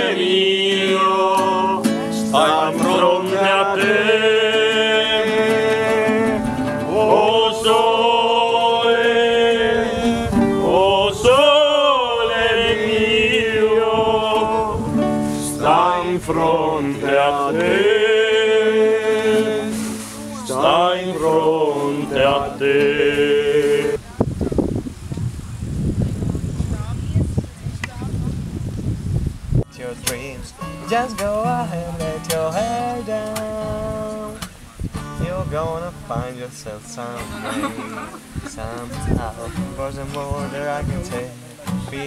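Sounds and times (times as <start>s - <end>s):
man singing: 0.0s - 24.0s, 29.7s - 42.0s
classical guitar: 0.0s - 24.5s, 29.6s - 42.0s.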